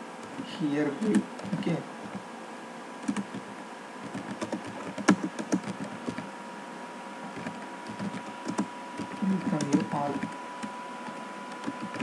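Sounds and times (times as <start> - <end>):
faint high-pitched hum: 0.0 - 12.0
keyboard typing: 0.2 - 2.2, 3.0 - 6.3, 7.4 - 12.0.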